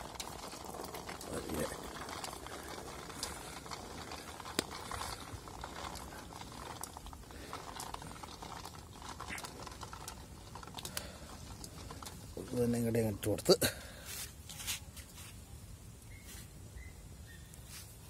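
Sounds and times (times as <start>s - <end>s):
grapes tumbling from colander: 0.0s - 15.5s.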